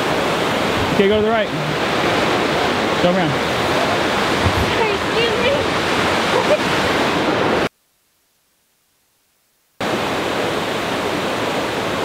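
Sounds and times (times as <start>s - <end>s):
floodwater rushing: 0.0s - 7.7s, 9.8s - 12.0s.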